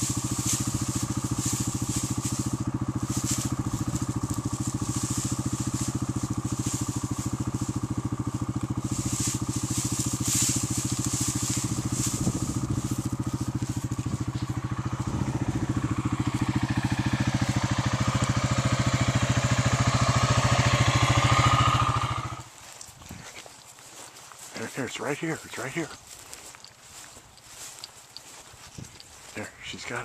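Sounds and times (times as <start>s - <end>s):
engine idling: 0.0s - 22.8s, 23.4s - 30.0s.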